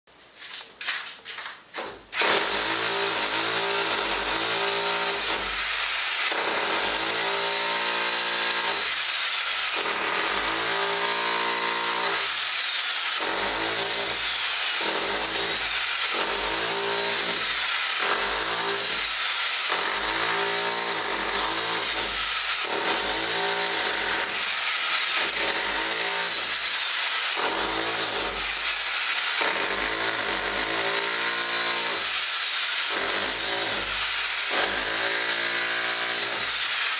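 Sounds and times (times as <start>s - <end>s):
rotary hammer chiselling concrete: 2.2s - 36.9s.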